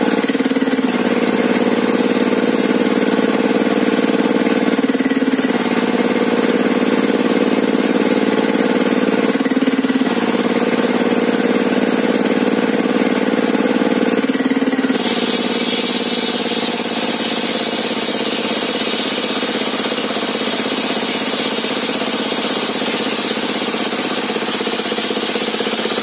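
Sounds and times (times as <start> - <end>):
table saw running: 0.0 - 26.0.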